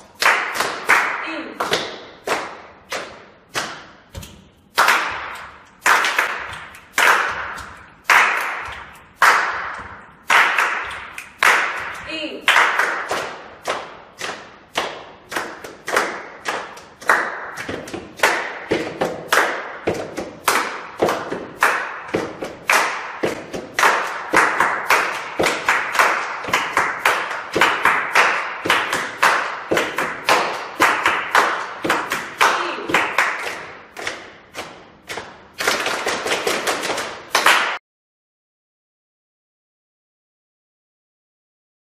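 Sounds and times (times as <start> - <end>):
people clapping in rhythm: 0.0 - 37.8
body percussion thuds: 1.6 - 37.5.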